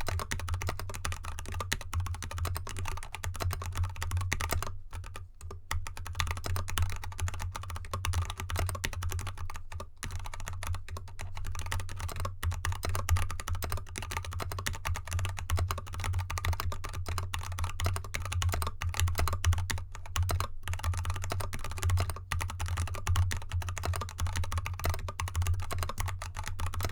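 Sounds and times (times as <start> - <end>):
fast typing on mechanical keyboard: 0.0 - 26.9.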